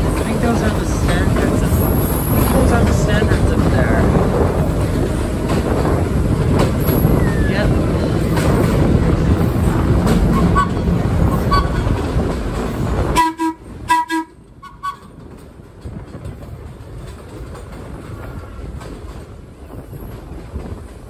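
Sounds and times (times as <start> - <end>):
subway train rumbling on track: 0.0 - 21.0.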